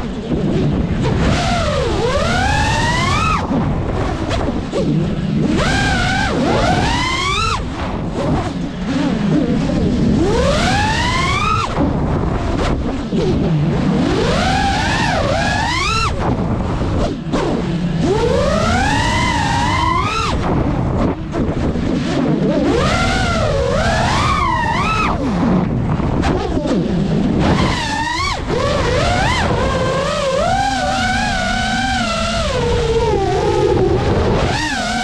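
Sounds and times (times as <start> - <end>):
drone motors and propellers whining: 0.0 - 35.0.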